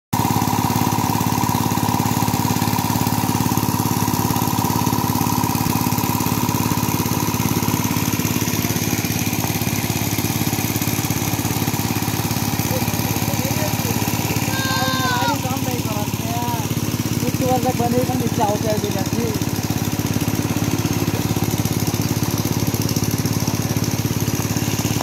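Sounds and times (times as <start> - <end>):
small engine running: 0.2 - 25.0.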